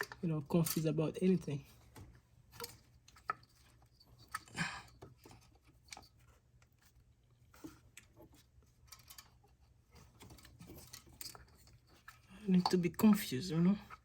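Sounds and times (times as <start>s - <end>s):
tools and parts clicking: 0.0s - 6.3s, 7.6s - 9.5s, 10.1s - 14.0s
parts rustling: 0.0s - 14.0s.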